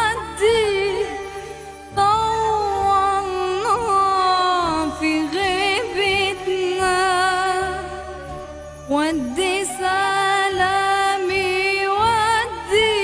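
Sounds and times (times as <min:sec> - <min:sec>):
low steady accompaniment: 0:00.0 - 0:13.0.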